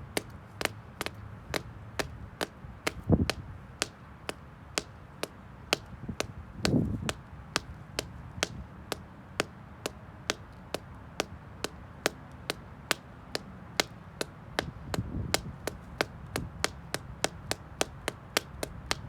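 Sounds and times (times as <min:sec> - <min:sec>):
shoe tapping on concrete: 0:00.0 - 0:19.0.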